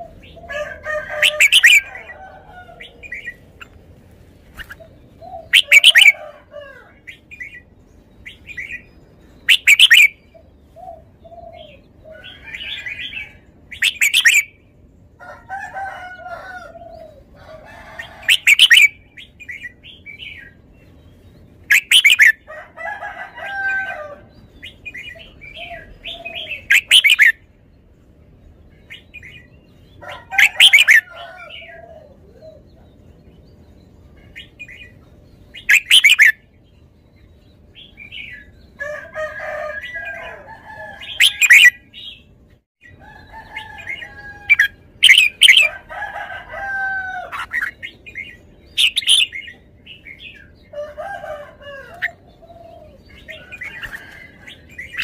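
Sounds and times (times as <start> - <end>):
bird singing bright phrases: 4.4 - 6.3, 6.9 - 15.2, 16.9 - 27.5, 28.6 - 46.6, 47.2 - 55.0.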